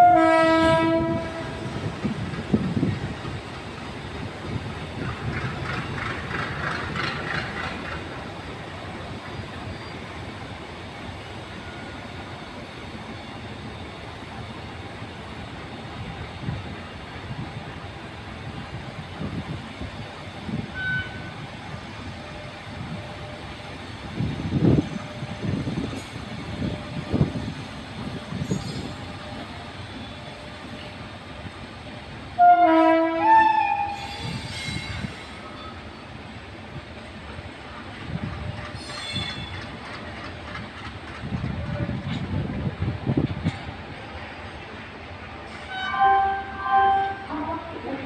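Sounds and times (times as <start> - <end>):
train rolling on track: 0.0 - 48.0.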